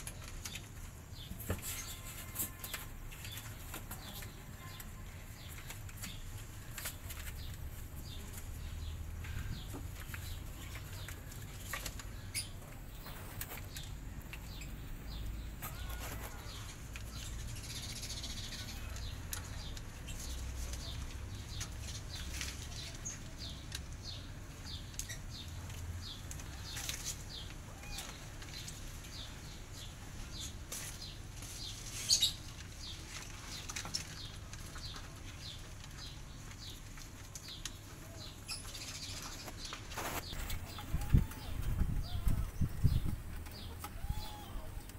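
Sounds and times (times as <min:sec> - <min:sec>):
kittens scratching on plastic: 0:00.0 - 0:14.6, 0:15.5 - 0:42.2.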